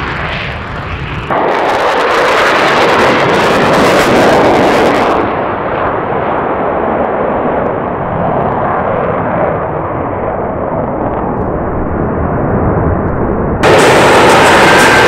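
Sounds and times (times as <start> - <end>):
fighter jet passing: 0.0 - 15.0.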